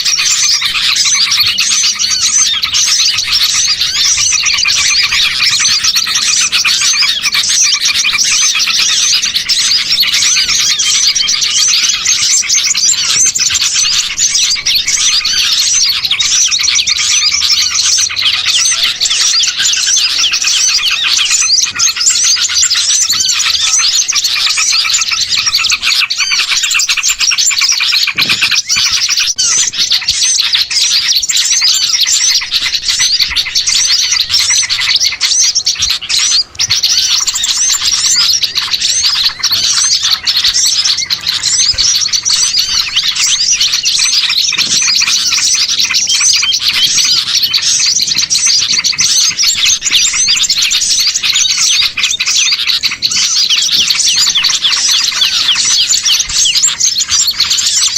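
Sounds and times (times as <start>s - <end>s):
songbirds chirping and twittering: 0.0s - 57.9s.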